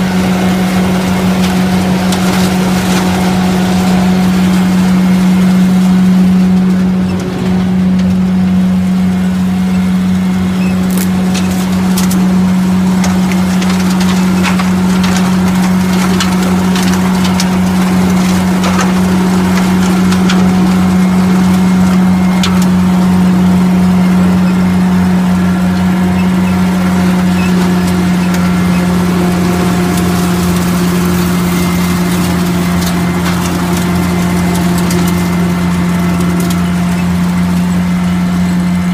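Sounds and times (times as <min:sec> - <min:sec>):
debris rattling through hose: 0:00.0 - 0:38.9
diesel engine running: 0:00.0 - 0:38.9
lawn vacuum fan drone: 0:00.0 - 0:38.9.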